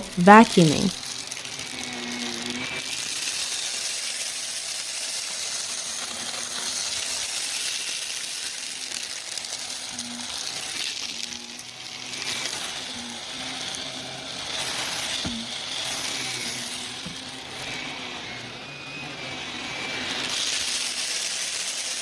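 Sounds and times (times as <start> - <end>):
upright vacuum running: 0.0 - 22.0.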